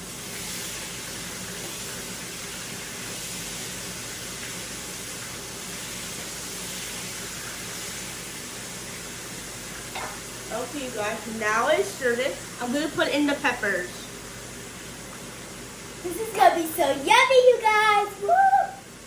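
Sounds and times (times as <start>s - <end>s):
onions sizzling in frying pan: 0.0s - 19.0s.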